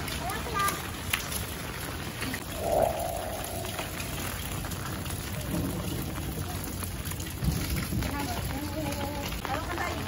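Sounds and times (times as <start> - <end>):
rain on concrete roof: 0.0 - 10.0.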